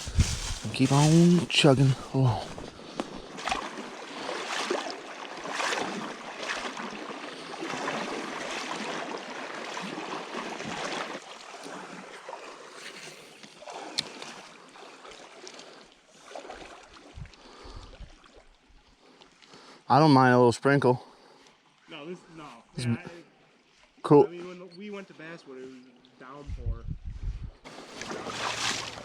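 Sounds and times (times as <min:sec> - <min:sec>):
water sloshing with strides: 0:00.0 - 0:19.9, 0:21.0 - 0:29.0
running creek: 0:00.0 - 0:26.5, 0:27.6 - 0:29.0.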